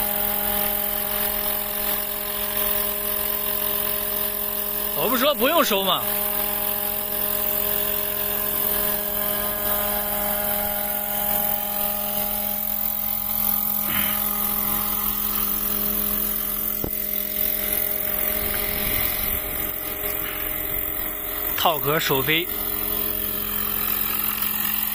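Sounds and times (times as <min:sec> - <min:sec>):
rc helicopter rotor hum and whine: 0:00.0 - 0:24.9.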